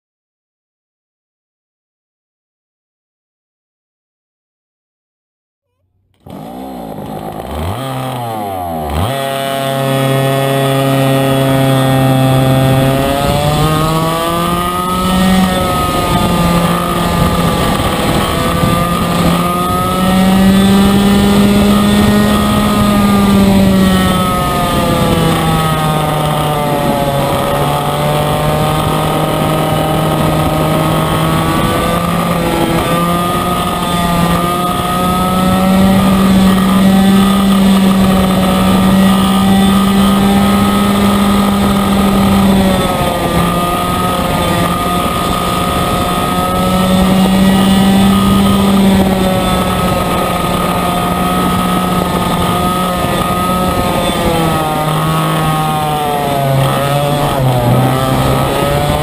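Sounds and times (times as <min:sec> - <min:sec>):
kart engine revving: 0:05.7 - 0:59.0.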